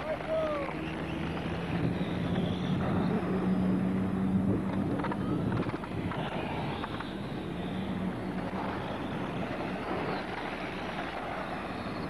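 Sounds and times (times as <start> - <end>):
radio-controlled cars racing: 0.0 - 12.0.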